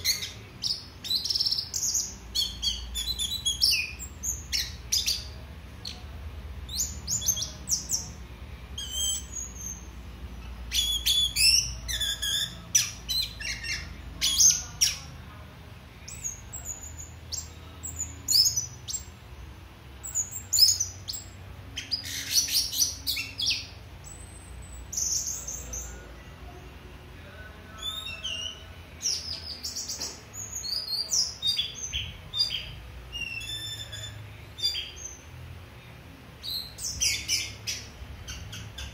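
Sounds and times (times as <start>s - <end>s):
thrush singing: 0.0s - 38.9s.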